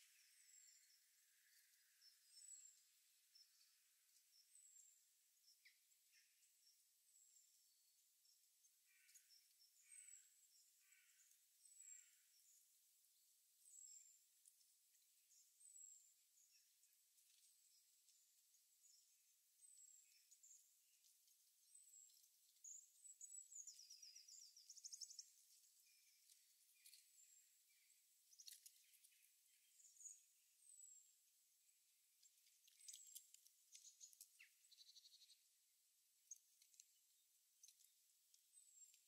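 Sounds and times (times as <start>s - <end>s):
faint songbirds chirping: 0.0s - 39.0s.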